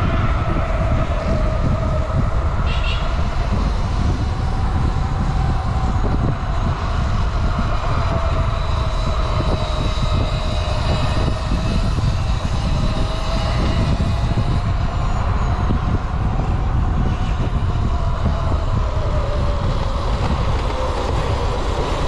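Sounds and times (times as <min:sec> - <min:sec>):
faint electric motor whine: 0:00.0 - 0:22.0
wind buffeting microphone: 0:00.0 - 0:22.0.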